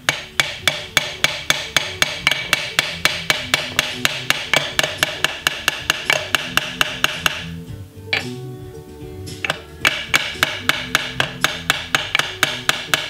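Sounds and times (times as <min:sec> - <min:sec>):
hammer striking metal: 0:00.0 - 0:07.5, 0:09.4 - 0:13.0.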